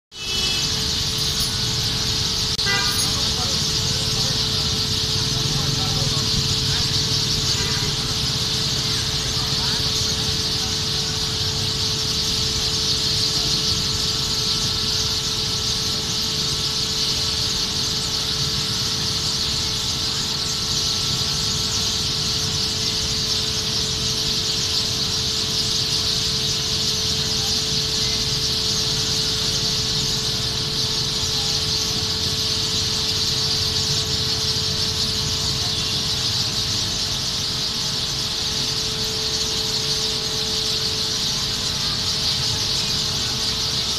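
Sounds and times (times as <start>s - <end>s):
huge flock of birds chattering: 0.1s - 43.9s.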